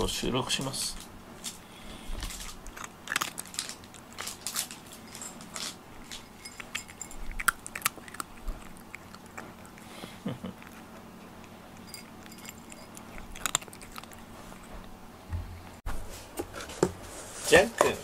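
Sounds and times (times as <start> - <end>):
cat crunching dry kibble: 0.5 - 15.0.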